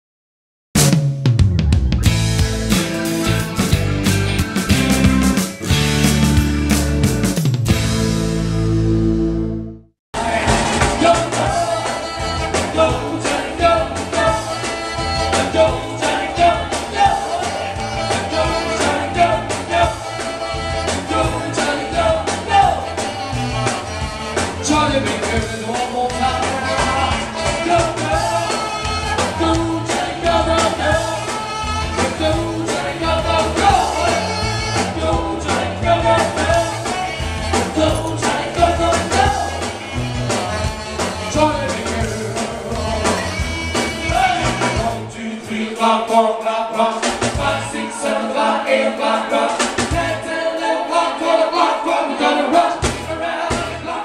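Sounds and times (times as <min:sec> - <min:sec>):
rock and roll song with singing: 0:01.6 - 0:08.4, 0:10.2 - 0:54.0.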